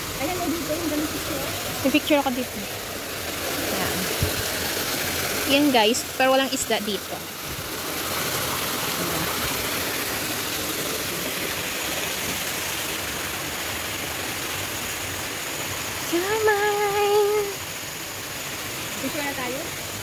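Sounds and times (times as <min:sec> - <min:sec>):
waterfall splashing into pond: 0:00.0 - 0:20.0.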